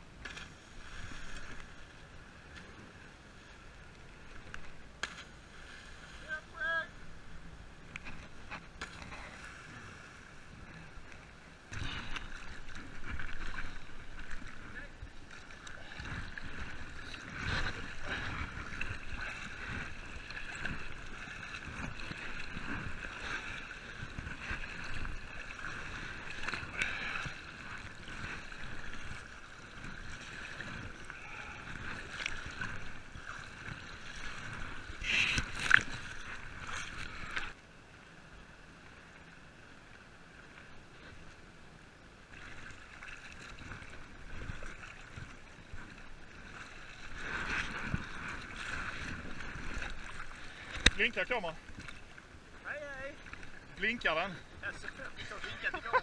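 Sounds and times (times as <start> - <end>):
sea water splashing: 0.0 - 37.6, 42.2 - 56.0.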